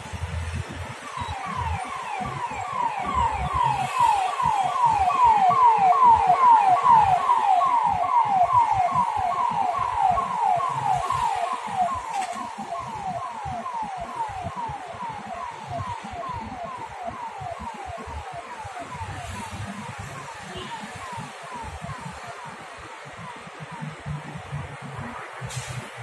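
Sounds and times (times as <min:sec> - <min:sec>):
emergency vehicle siren: 0:00.0 - 0:26.0.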